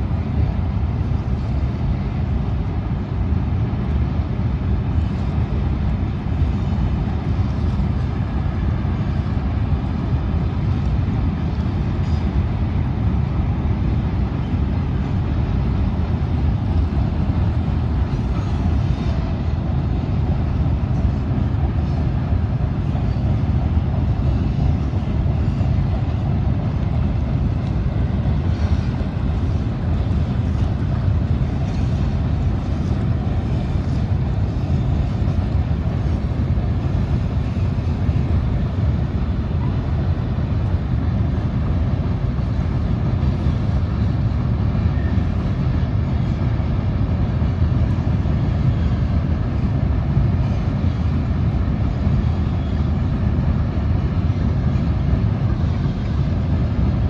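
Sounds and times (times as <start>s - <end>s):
train rumbling across bridge: 0.0s - 57.0s
wind on microphone: 0.0s - 57.0s.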